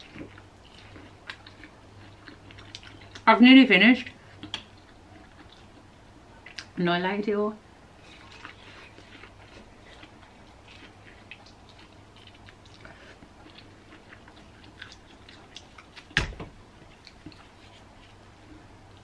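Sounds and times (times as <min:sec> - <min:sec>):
person chewing corn on the cob: 0:00.0 - 0:03.3, 0:04.2 - 0:06.8, 0:08.0 - 0:16.2, 0:16.8 - 0:19.0.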